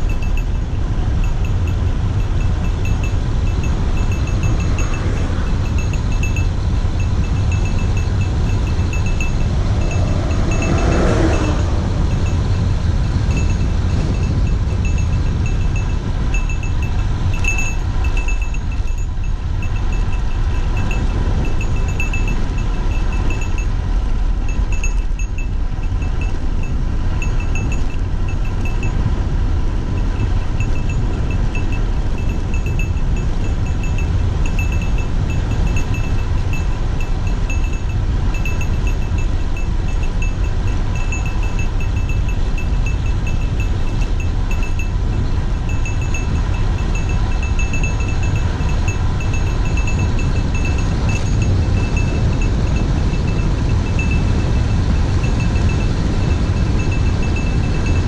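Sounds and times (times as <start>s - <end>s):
bicycle freewheel ticking: 0.0s - 29.2s, 29.9s - 58.0s
wind rushing over camera: 0.0s - 58.0s.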